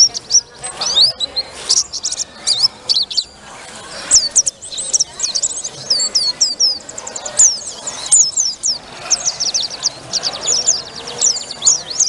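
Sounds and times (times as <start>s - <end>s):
bird singing high chirps: 0.0s - 12.0s.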